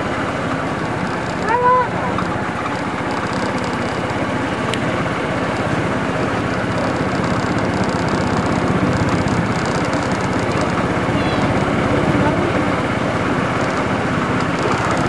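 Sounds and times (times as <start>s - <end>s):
golf buggy motor rumbling: 0.0s - 15.0s.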